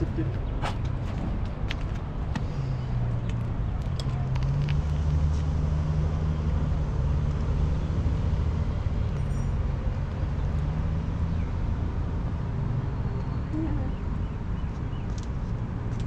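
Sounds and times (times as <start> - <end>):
vehicle engine idling: 0.0 - 15.1.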